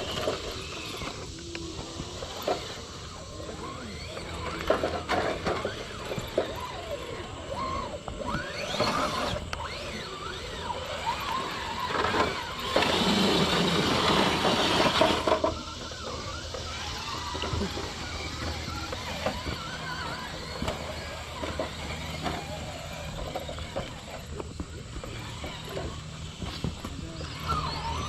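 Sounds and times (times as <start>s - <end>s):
rc truck motor whining: 0.0s - 28.0s
rough gritty noise: 0.0s - 28.0s.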